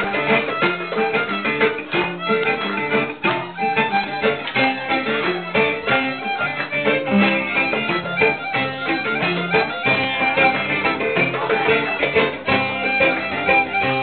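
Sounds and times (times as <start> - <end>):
plucked strings: 0.0 - 14.0
violin melody: 0.0 - 14.0.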